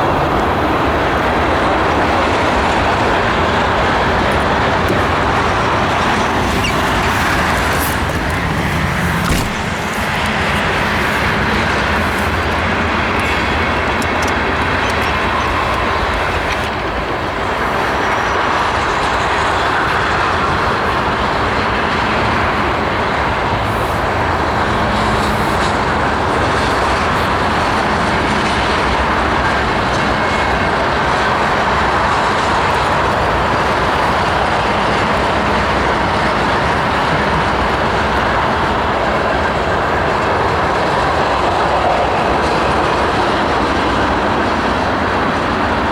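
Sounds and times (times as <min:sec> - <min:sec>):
freight train rolling past: 0:00.0 - 0:45.9.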